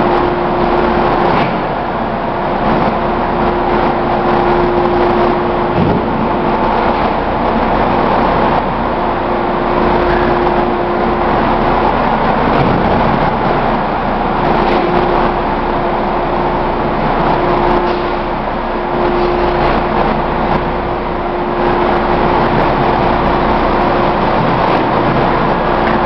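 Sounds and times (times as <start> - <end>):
washing machine running: 0.0 - 26.0.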